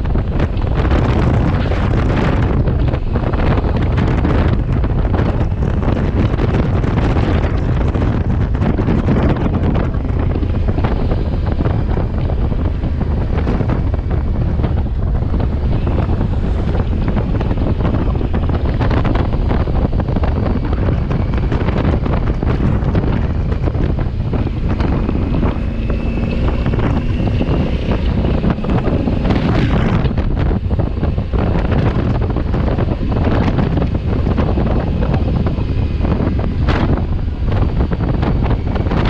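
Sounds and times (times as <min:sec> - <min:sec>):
road noise: 0:00.0 - 0:39.0
wind buffeting microphone: 0:00.0 - 0:39.0.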